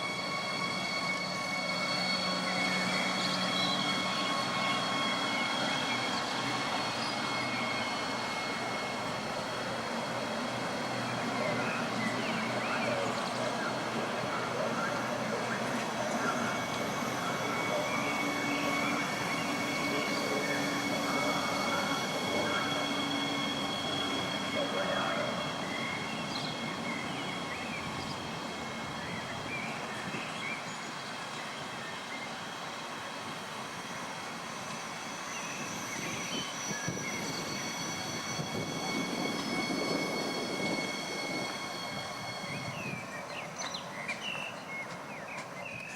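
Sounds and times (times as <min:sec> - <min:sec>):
high whining tones: 0:00.0 - 0:29.6, 0:33.7 - 0:43.2
train rumbling: 0:00.0 - 0:45.9.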